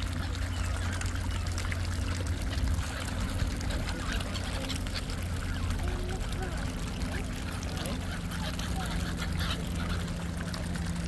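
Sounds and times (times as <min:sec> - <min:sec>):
steady low rumble: 0:00.0 - 0:11.0
water splashing and trickling: 0:00.0 - 0:11.0.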